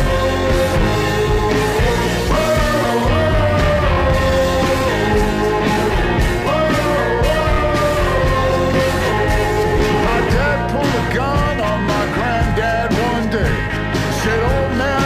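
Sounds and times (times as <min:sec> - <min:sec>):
rock background music: 0:00.0 - 0:15.0.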